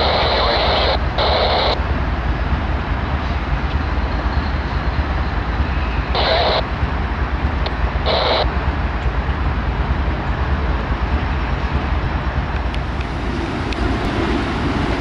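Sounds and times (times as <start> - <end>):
diesel locomotive engine rumbling: 0.0 - 15.0.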